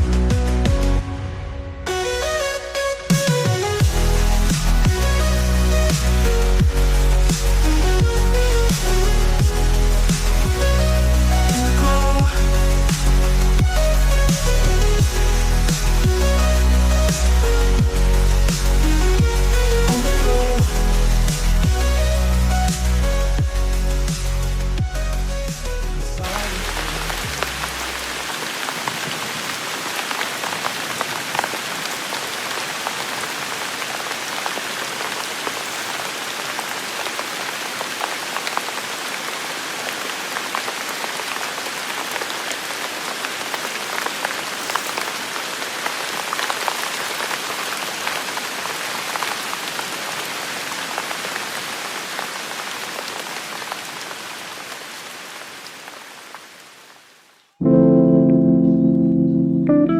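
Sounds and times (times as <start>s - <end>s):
steady rain falling: 0.0s - 57.6s.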